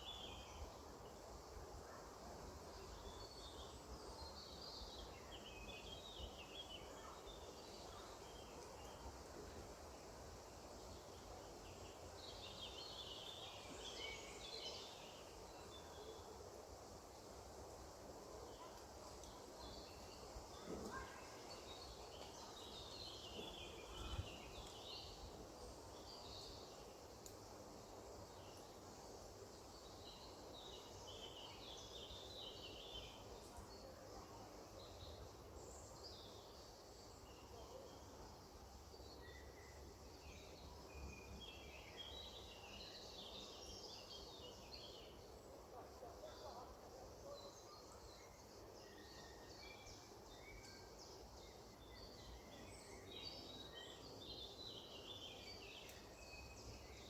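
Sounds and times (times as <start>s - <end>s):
songbirds chirping: 0.0s - 57.0s
steady background hiss: 0.0s - 57.0s.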